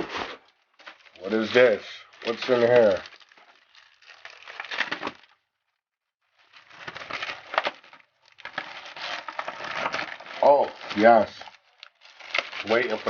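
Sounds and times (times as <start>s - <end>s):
bubble wrap crinkling: 0.0s - 5.5s, 6.3s - 13.0s.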